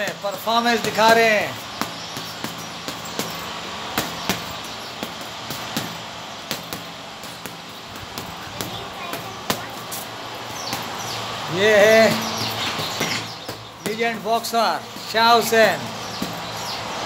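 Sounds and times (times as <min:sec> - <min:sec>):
gloved punches on heavy bag: 0:00.0 - 0:10.0, 0:11.9 - 0:14.3, 0:14.9 - 0:16.5.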